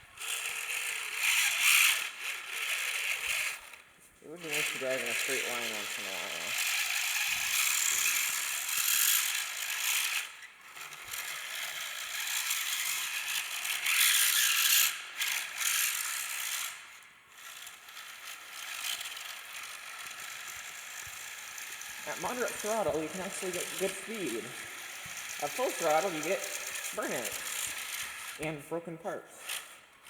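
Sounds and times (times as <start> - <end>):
electric motor whirring: 0.1 - 28.6
toy car gears rattling: 0.2 - 3.8, 4.4 - 28.5, 29.4 - 30.0.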